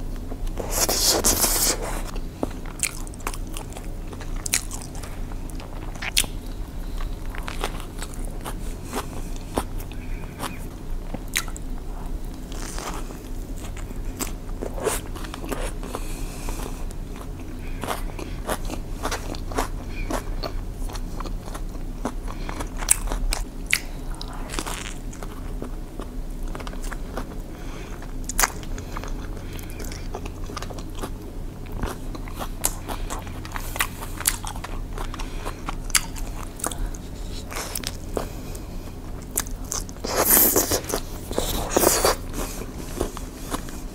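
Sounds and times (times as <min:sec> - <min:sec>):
steady low hum: 0:00.0 - 0:43.9
crunchy sandwich chewing: 0:00.1 - 0:43.9.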